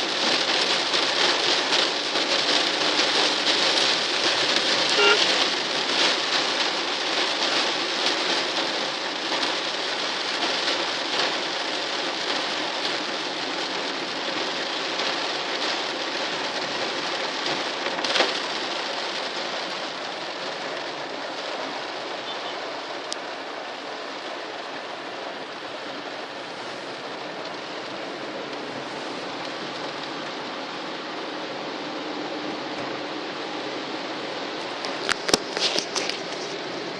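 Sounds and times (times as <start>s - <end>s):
rain pattering: 0.0s - 36.9s.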